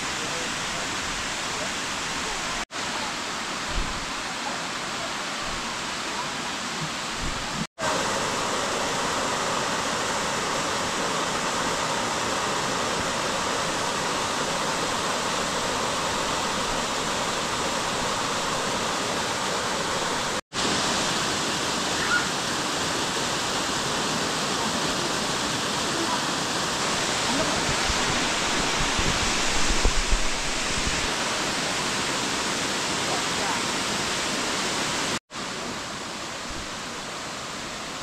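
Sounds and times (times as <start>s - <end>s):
waterfall rushing over rock: 0.0s - 38.0s.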